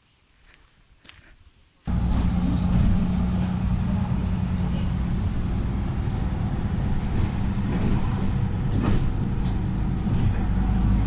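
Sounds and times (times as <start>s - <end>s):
vehicle engine and road noise: 1.9s - 11.0s.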